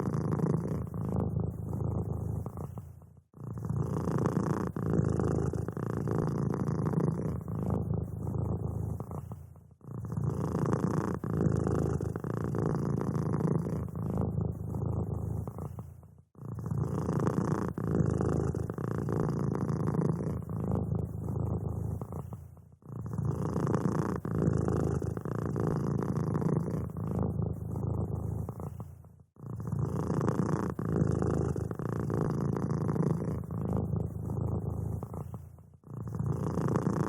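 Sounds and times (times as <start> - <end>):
cat purring: 0.0 - 37.0.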